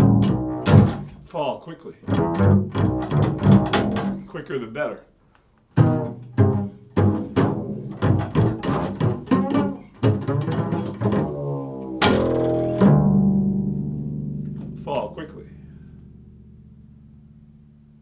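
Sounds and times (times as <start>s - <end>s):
plucked low string instrument: 0.0s - 1.3s, 2.0s - 4.4s, 5.8s - 18.0s.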